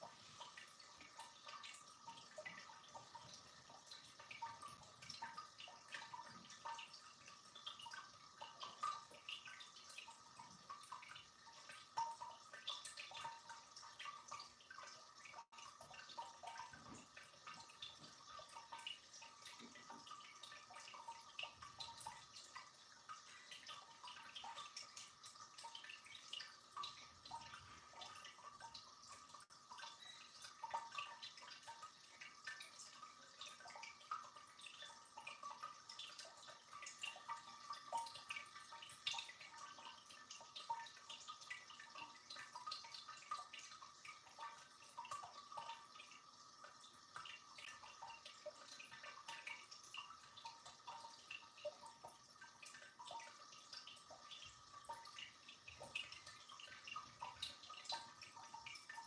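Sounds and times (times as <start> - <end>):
fountain water trickling: 0.0 - 59.0
small drips and splashes: 0.0 - 59.0.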